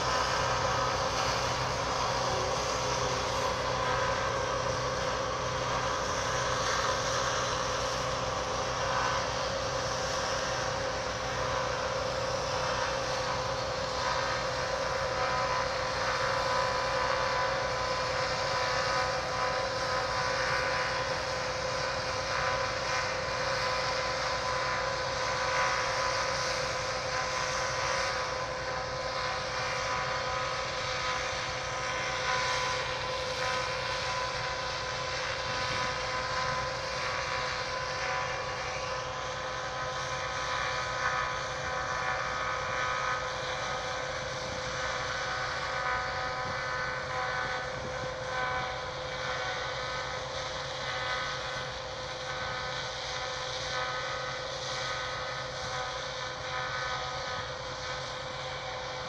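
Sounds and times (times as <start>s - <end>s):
combine harvester drone: 0.0s - 59.0s
constant whining tone: 0.0s - 59.0s.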